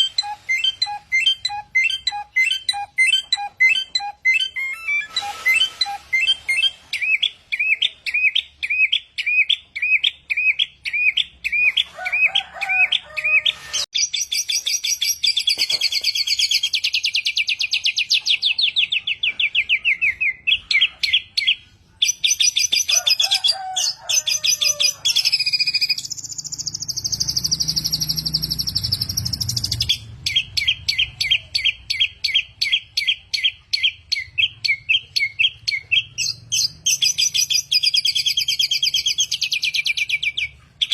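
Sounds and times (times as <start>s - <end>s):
songbird singing: 0.0s - 12.1s, 13.0s - 40.9s.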